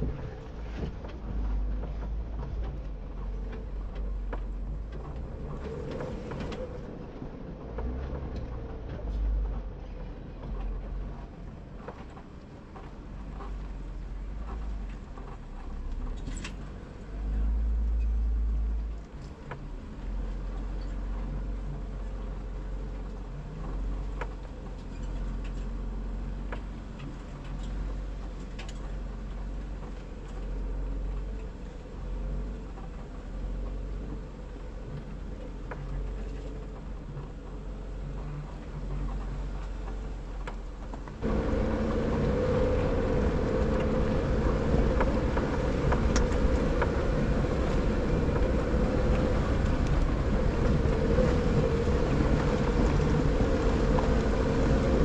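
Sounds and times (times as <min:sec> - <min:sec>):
deep rumble: 0:00.0 - 0:55.0
vehicle engine drone: 0:00.0 - 0:55.0.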